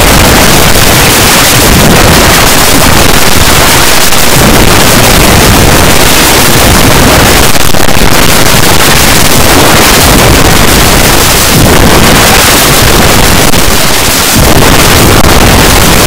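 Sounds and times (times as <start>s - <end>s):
heavily distorted clipping song: 0.0s - 16.0s.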